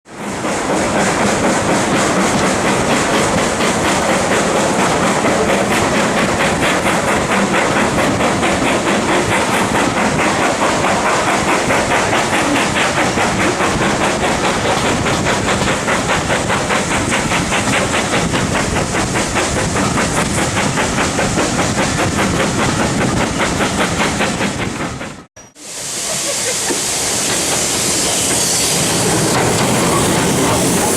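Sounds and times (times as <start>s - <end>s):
steam train running: 0.1s - 30.9s.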